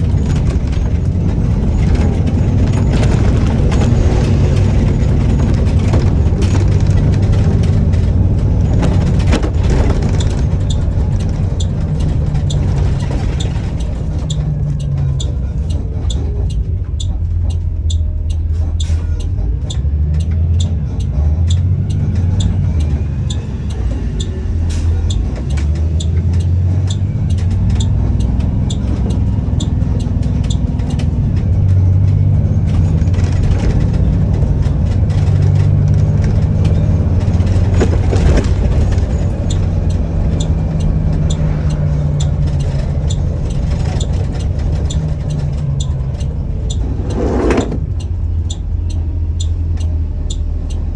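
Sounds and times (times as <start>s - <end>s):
bus engine low rumble: 0.0s - 50.9s
light regular ticking: 0.0s - 50.9s.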